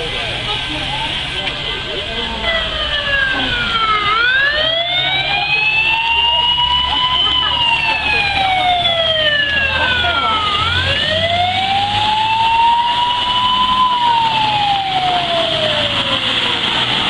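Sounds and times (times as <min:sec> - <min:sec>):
fire truck siren wailing: 0:01.3 - 0:17.0.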